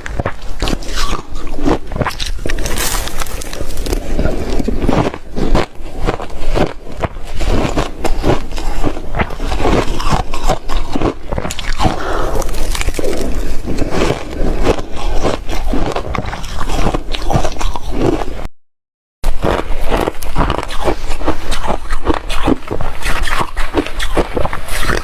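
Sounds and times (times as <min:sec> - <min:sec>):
ice being chewed: 0:00.0 - 0:18.5, 0:19.3 - 0:25.0.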